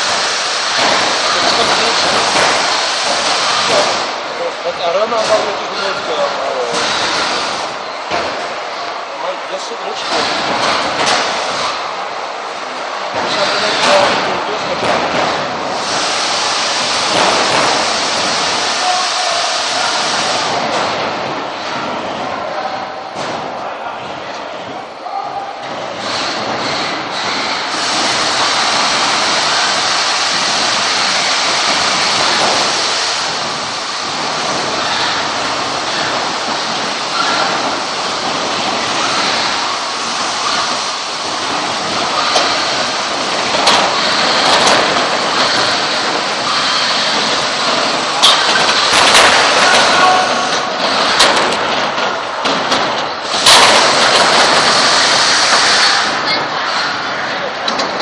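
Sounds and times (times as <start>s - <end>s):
machinery rushing noise: 0.0s - 58.0s.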